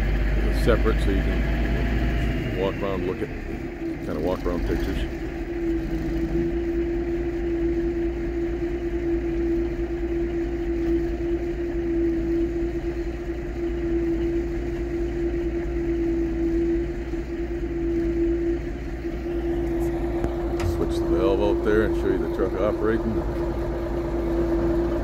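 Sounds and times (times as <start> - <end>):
diesel truck idling: 0.0 - 25.0.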